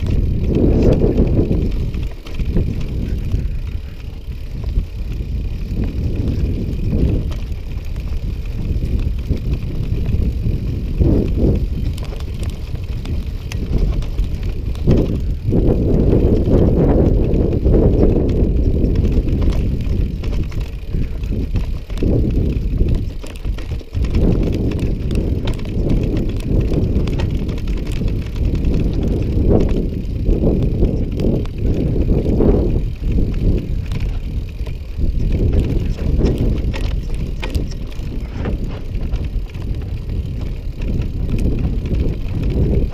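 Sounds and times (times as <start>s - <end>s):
bicycle tyre rumble on rough track: 0.0s - 42.9s
wind buffeting microphone: 0.0s - 42.9s.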